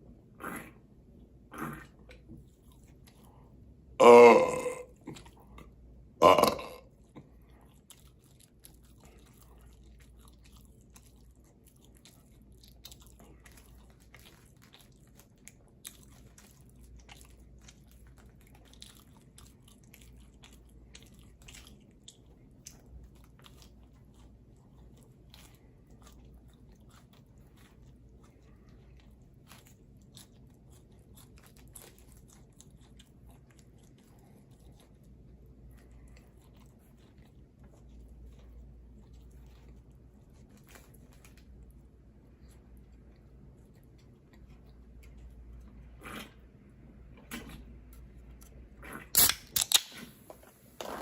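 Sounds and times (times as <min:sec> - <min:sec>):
low background hum: 0:00.0 - 0:51.0
chewing with crunchy clicks: 0:01.8 - 0:03.9, 0:04.9 - 0:06.1, 0:06.9 - 0:49.8.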